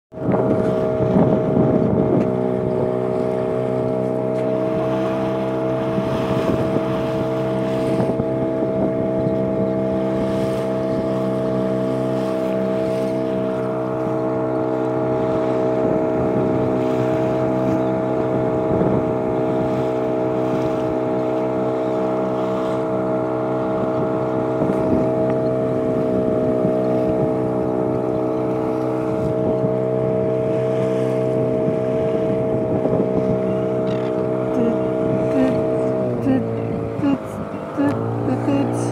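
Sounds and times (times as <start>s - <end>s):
boat engine droning: 0.1s - 38.9s
water and wind rushing: 0.1s - 38.9s.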